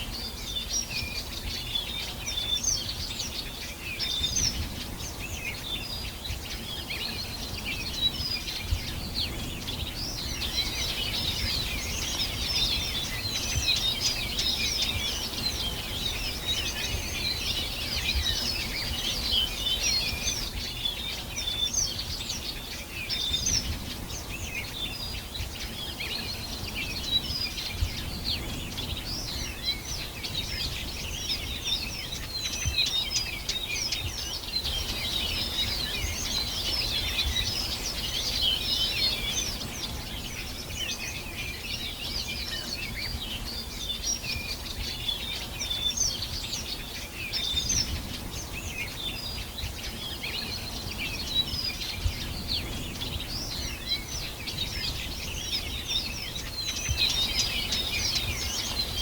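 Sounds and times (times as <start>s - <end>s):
songbirds chorus: 0.0s - 59.0s.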